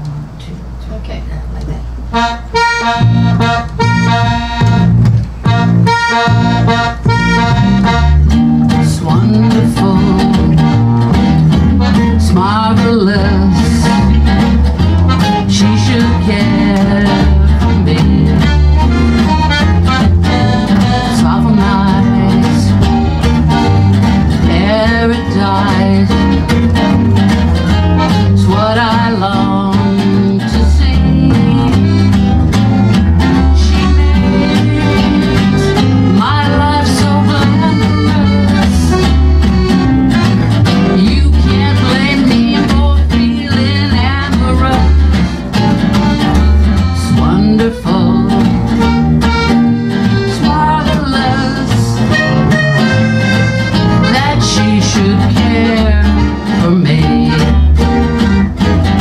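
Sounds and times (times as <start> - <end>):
guitars strumming: 0.0 - 59.0
upright double bass: 0.0 - 59.0
piano accordion: 2.0 - 59.0.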